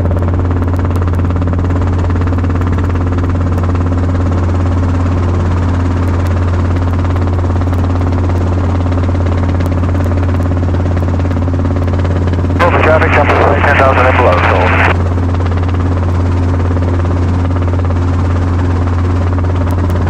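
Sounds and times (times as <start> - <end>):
helicopter rotor and engine drone: 0.0 - 20.0.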